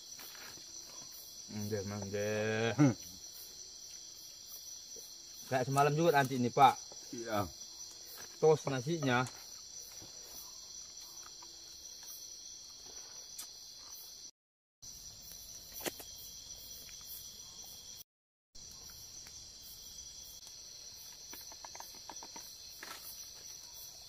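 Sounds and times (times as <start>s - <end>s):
night insects chorus: 0.0s - 18.0s, 18.6s - 24.0s.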